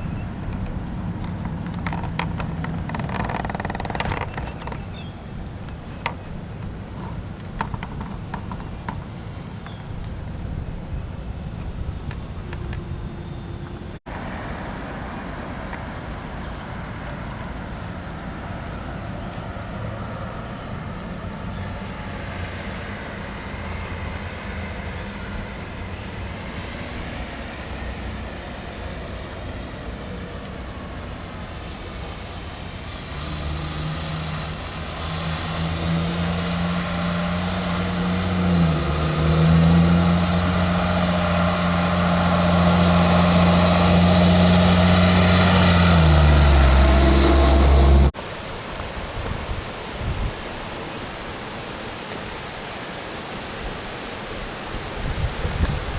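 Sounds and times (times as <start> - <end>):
vehicle engine running: 0.0 - 48.2.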